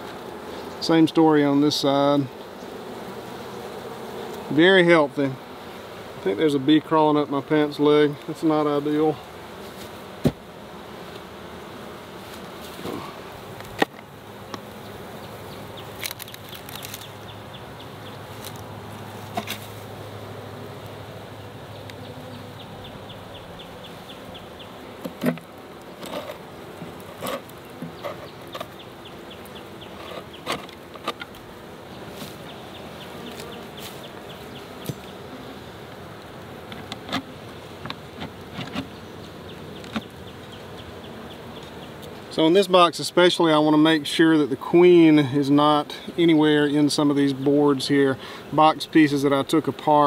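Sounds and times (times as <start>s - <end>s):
bees buzzing: 0.0s - 50.0s.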